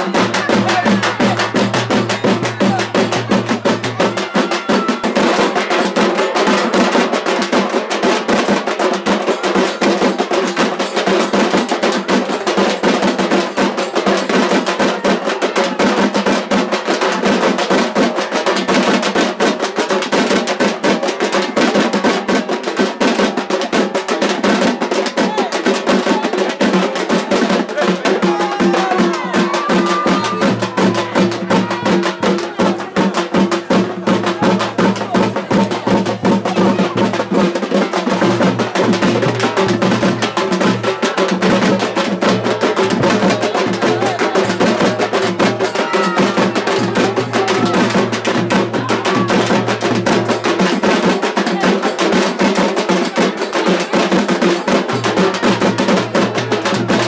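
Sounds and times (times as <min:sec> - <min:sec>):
rapid drumming: 0:00.0 - 0:57.0.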